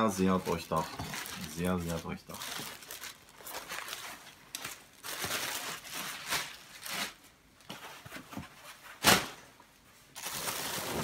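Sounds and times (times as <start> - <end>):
plastic bags rustling: 0.0 - 9.5, 10.1 - 11.0.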